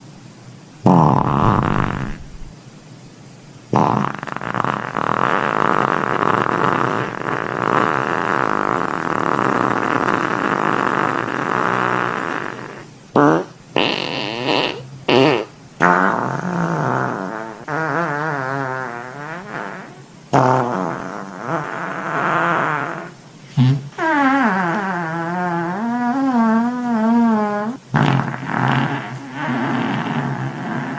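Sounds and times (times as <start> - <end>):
fart sound effects: 0.8 - 2.5, 3.7 - 30.9.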